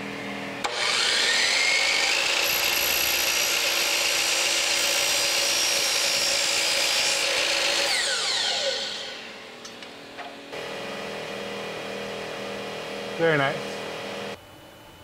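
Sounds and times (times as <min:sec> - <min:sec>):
miter saw cutting metal: 0:00.6 - 0:14.4
saw blade spinning down whine: 0:00.6 - 0:14.4.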